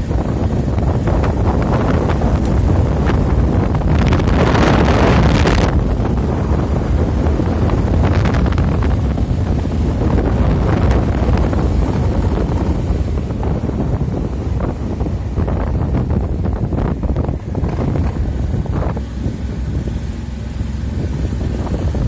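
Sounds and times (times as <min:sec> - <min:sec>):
motorcycle and road rumble: 0:00.0 - 0:22.0
wind buffeting microphone: 0:00.0 - 0:22.0.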